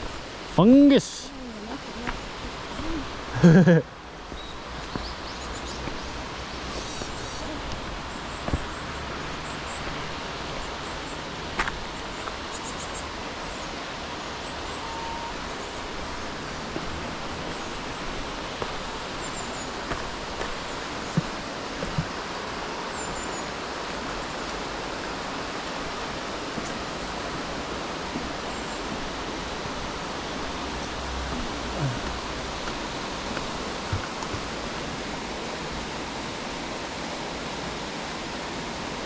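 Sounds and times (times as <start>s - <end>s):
flowing mountain water: 0.0s - 39.0s.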